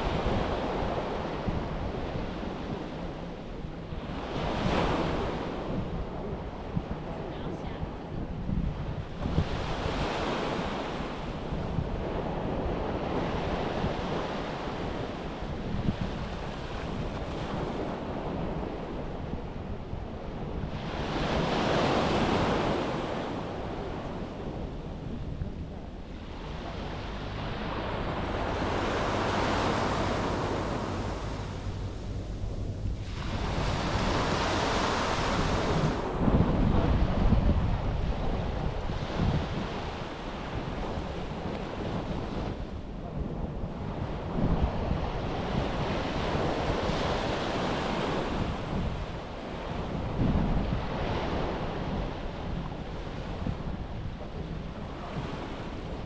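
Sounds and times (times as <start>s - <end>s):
sea waves breaking: 0.0s - 56.0s
wind rumbling on microphone: 0.0s - 56.0s.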